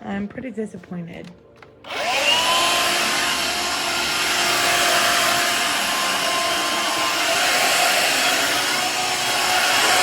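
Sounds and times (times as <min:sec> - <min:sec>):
stick vacuum motor whine: 0:01.8 - 0:10.0.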